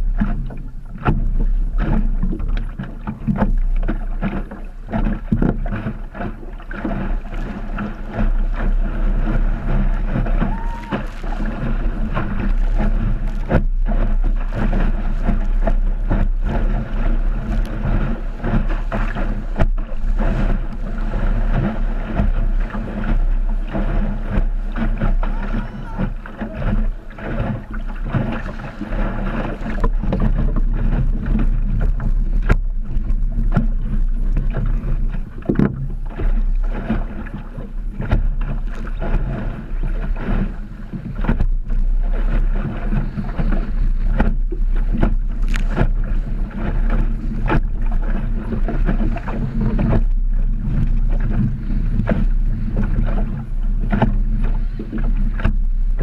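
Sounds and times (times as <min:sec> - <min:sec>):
water splashing against hull: 0:00.0 - 0:56.0
wind buffeting microphone: 0:00.0 - 0:56.0.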